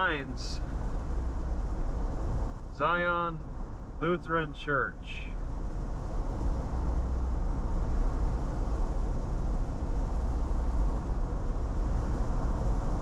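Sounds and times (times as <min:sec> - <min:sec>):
tyre and road noise: 0:00.0 - 0:04.1, 0:04.9 - 0:13.0
car driving rumble: 0:00.0 - 0:13.0.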